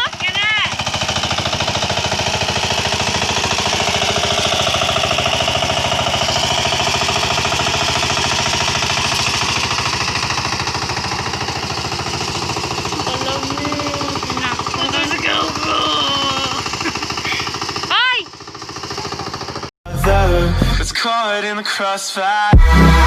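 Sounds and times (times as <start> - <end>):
small engine chugging: 0.0 - 19.7.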